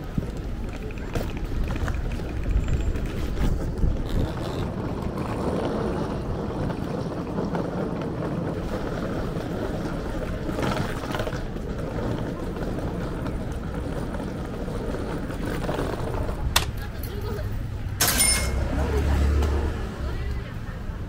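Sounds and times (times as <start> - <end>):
large vehicle rumbling: 0.0 - 21.0.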